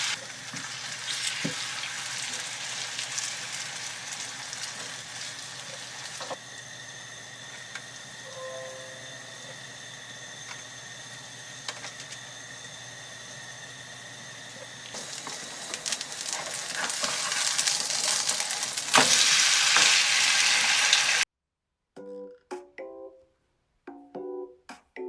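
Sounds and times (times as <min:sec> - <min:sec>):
food sizzling in a pan: 0:00.0 - 0:21.2.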